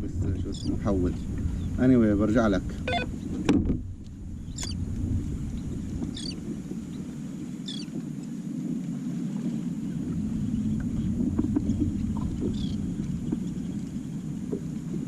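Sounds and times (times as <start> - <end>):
water: 0.0 - 15.0
wind: 0.0 - 15.0.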